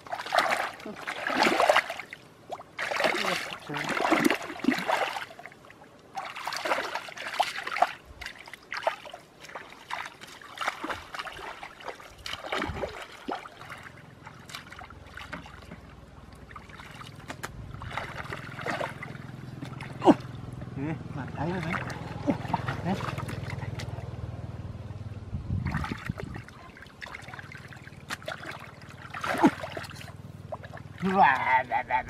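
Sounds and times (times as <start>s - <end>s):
feet wading through muddy water: 0.0s - 24.4s, 25.6s - 32.0s.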